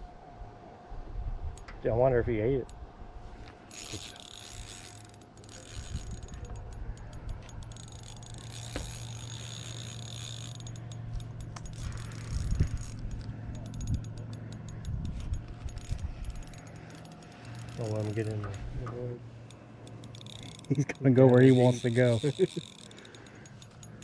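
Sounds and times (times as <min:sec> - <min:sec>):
low steady hum: 0:00.0 - 0:24.0
fishing reel drag clicking: 0:03.7 - 0:18.7, 0:19.4 - 0:24.0.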